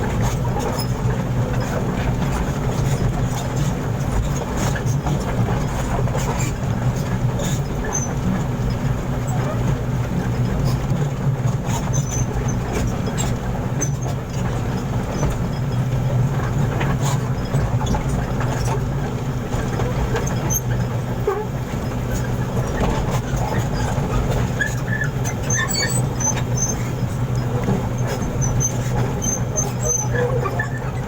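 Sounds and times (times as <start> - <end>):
heavy engine droning: 0.0 - 31.0.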